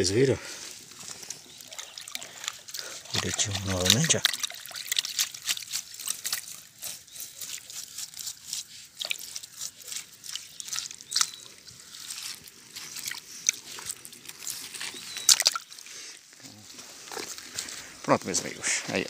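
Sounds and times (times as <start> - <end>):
leaves and dirt crackling on mesh: 0.0 - 19.0
water trickling: 0.4 - 16.2.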